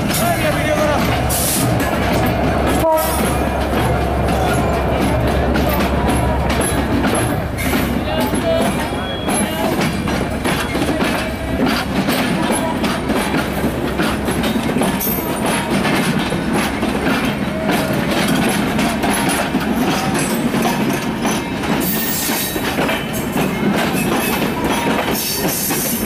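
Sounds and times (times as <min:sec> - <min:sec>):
train rumble: 0:00.0 - 0:26.0
train wheels clacking on rail joints: 0:00.0 - 0:26.0.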